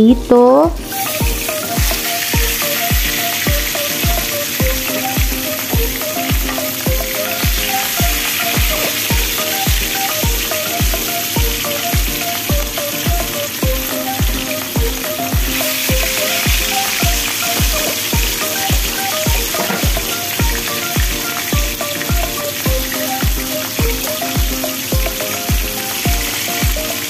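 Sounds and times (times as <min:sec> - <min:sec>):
background music with steady beat: 0:00.0 - 0:27.0
fish deep-frying in oil: 0:00.8 - 0:27.0.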